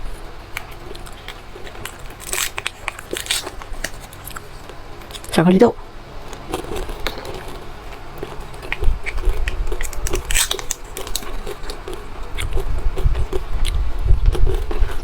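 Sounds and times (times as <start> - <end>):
chewing crunchy chocolate: 0.0 - 5.4, 6.2 - 15.0.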